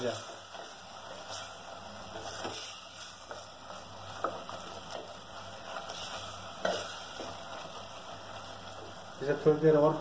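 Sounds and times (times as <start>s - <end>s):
masala sizzling: 0.0s - 10.0s.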